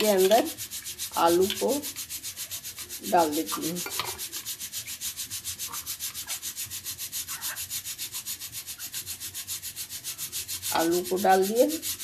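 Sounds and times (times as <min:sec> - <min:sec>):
rhythmic swishing: 0:00.0 - 0:12.0.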